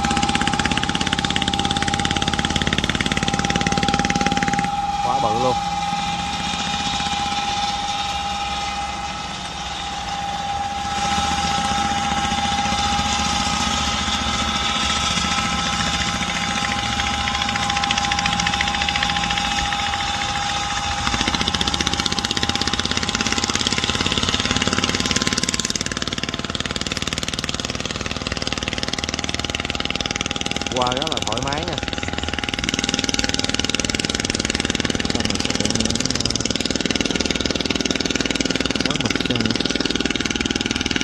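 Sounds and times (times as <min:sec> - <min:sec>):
boat engine chugging: 0:00.0 - 0:41.0
steady whining tone: 0:00.0 - 0:41.0.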